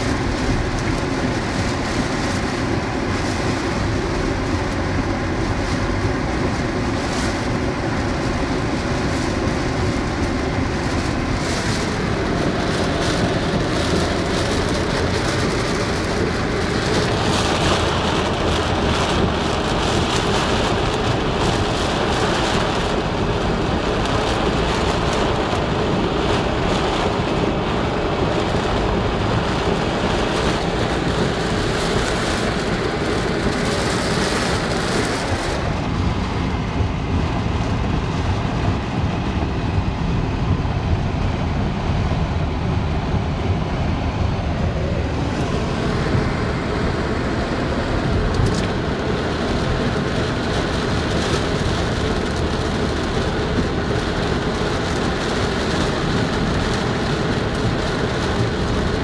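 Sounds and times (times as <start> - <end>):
heavy rain on car roof: 0.0 - 59.0
road and engine noise: 0.0 - 59.0.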